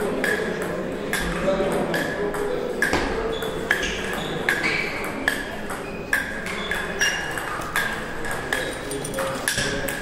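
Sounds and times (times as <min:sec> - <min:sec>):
table tennis ball hits: 0:00.1 - 0:08.7.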